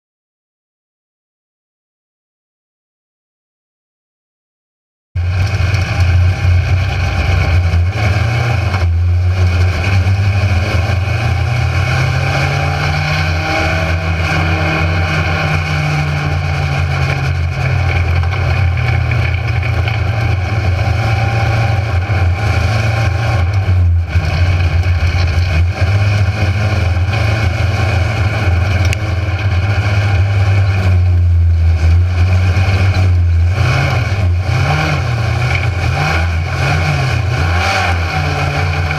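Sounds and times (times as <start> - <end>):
race car engine running hard: 5.2 - 38.9.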